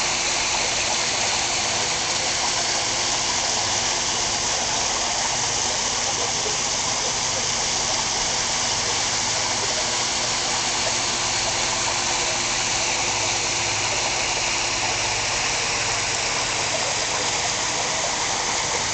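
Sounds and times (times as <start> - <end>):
waterfall splashing into pool: 0.0 - 18.9.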